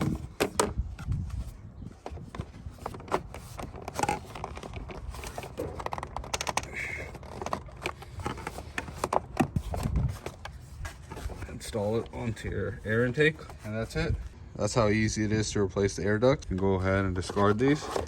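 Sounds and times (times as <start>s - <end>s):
plastic parts clicking and scraping: 0.0s - 14.2s, 16.4s - 18.0s.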